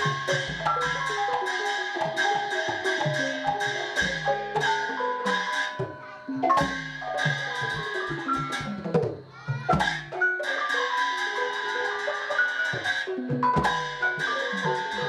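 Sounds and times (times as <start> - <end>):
xylophone-like mallet notes: 0.0 - 15.0.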